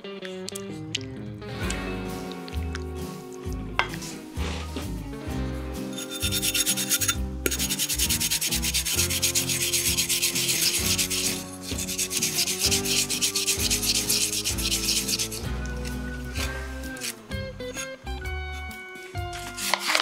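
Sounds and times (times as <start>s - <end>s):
rhythmic scraping strokes: 2.1s - 20.0s.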